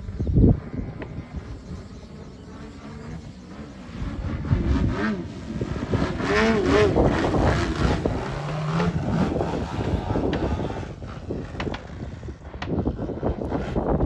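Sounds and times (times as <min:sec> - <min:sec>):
model plane engine running loud: 0:00.0 - 0:14.0.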